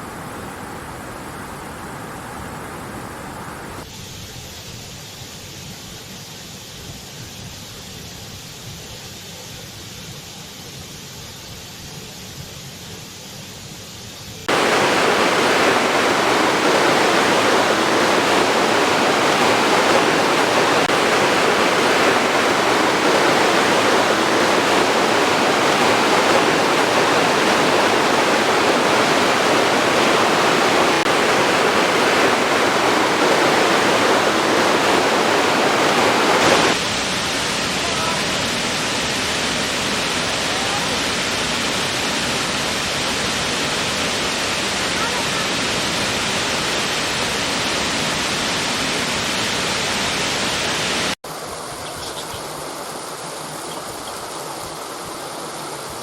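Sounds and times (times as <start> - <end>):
waterfall rushing: 0.0 - 3.9, 14.4 - 56.0.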